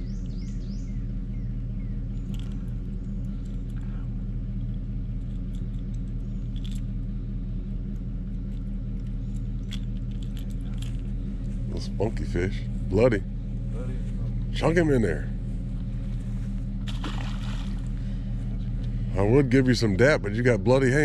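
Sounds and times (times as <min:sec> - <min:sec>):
low mechanical drone: 0:00.0 - 0:21.0.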